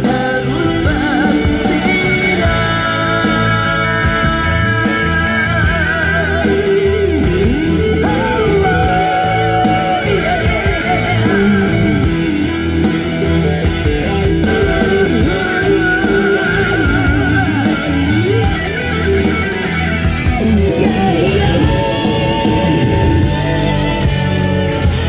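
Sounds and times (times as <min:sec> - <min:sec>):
guitar music with strong bass: 0:00.0 - 0:25.0.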